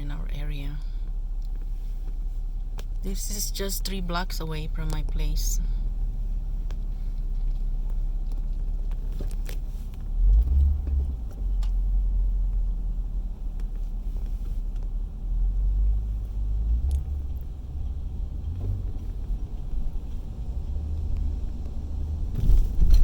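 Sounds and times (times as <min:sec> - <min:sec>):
car rumble inside cabin: 0:00.0 - 0:23.0.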